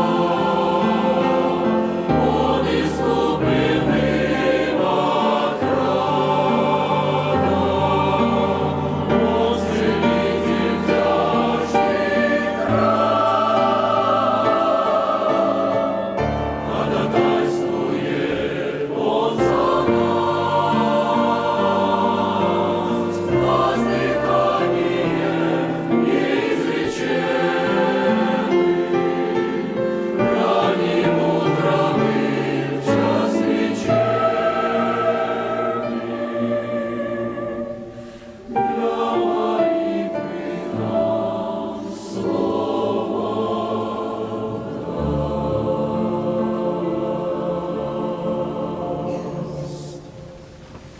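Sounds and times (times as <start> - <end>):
church choir singing a hymn: 0.0 - 50.9.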